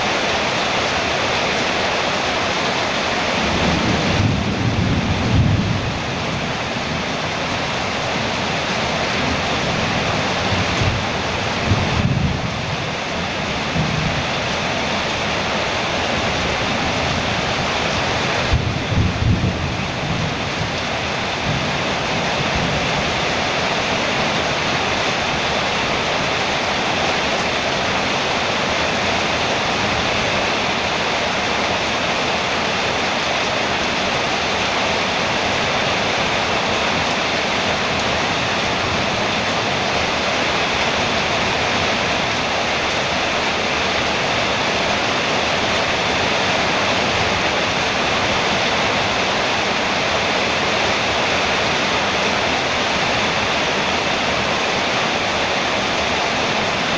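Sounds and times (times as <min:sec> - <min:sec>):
rain on a metal roof: 0:00.0 - 0:56.9.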